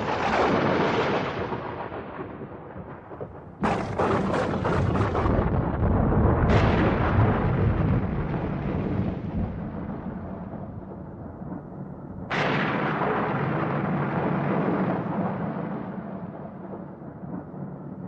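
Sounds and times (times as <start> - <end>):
thunder crack and rolling rumble: 0.0 - 18.0.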